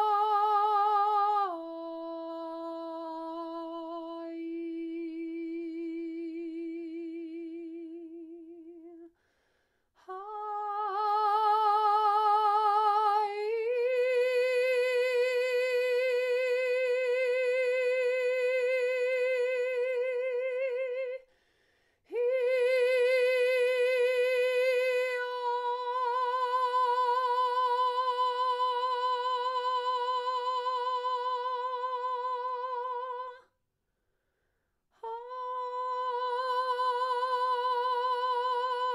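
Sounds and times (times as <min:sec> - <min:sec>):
woman singing long notes: 0:00.0 - 0:09.1, 0:10.0 - 0:21.2, 0:22.1 - 0:33.5, 0:35.0 - 0:38.9.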